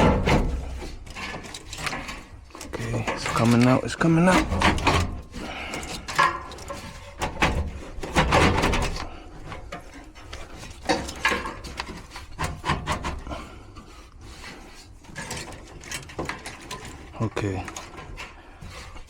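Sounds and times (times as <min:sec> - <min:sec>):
blower scraping against sheet metal: 0:00.0 - 0:19.0.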